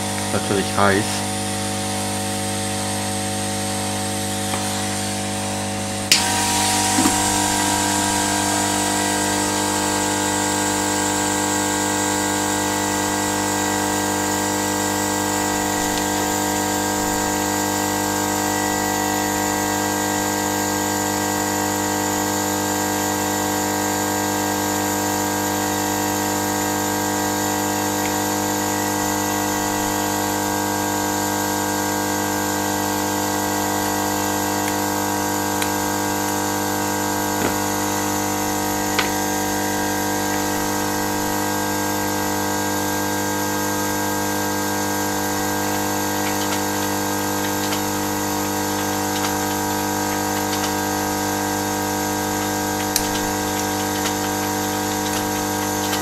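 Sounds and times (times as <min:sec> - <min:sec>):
electrical hum with airy hiss: 0:00.0 - 0:56.0.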